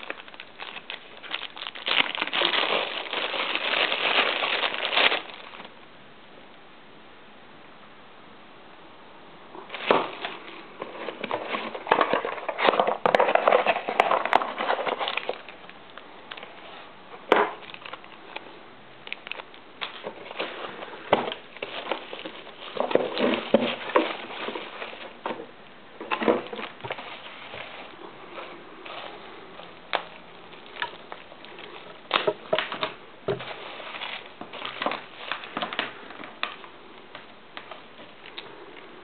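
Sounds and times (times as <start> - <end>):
bubble wrap and plastic bags rustling: 0.0 - 5.8, 9.6 - 39.0.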